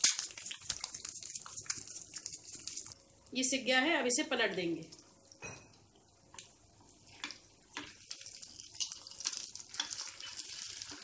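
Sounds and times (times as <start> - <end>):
eggs sizzling in oil: 0.0 - 3.0, 4.2 - 11.0.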